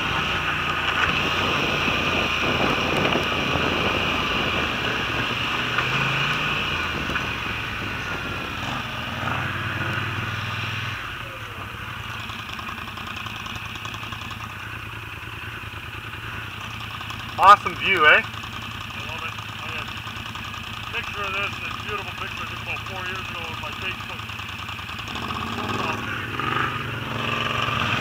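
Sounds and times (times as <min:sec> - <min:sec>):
quad bike engine: 0:00.0 - 0:28.0.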